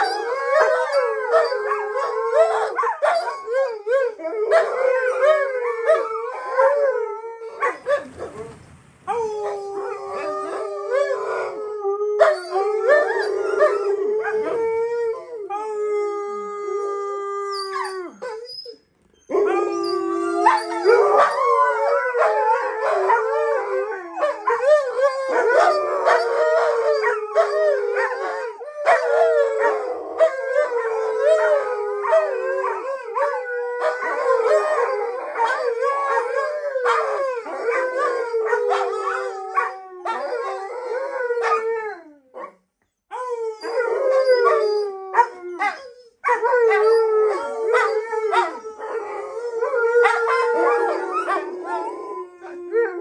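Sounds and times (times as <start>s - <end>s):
dogs howling together: 0.0s - 8.4s, 9.1s - 18.7s, 19.3s - 42.4s, 43.1s - 53.0s.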